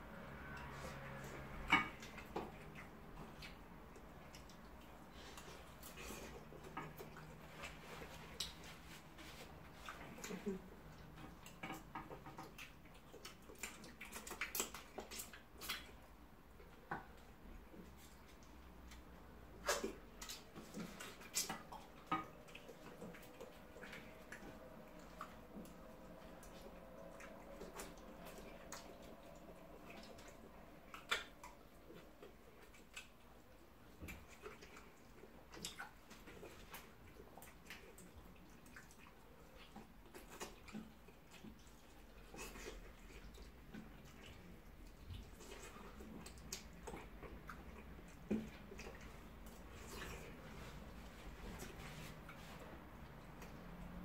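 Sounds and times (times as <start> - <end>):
chewing: 0.0 - 54.0.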